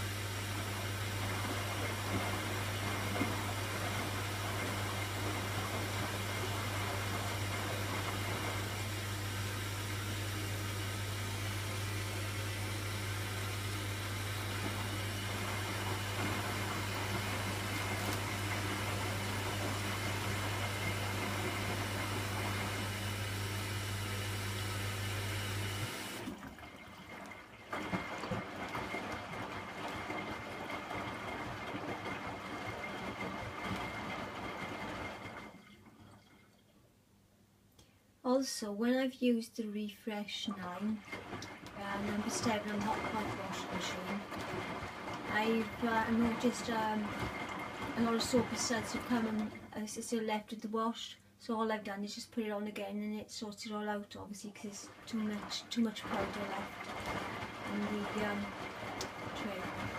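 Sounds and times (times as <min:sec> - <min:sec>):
washing machine drum tumbling: 0:00.4 - 0:36.0, 0:40.4 - 0:50.2, 0:54.5 - 0:59.9.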